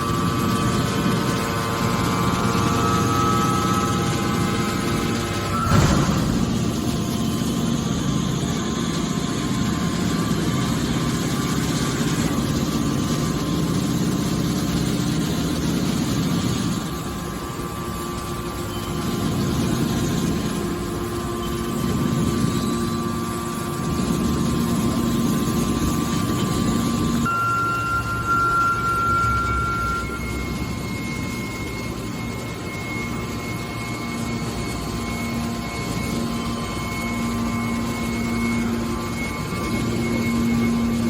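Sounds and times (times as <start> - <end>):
baler machine hum: 0.0 - 41.0
thin high whine: 0.0 - 41.0.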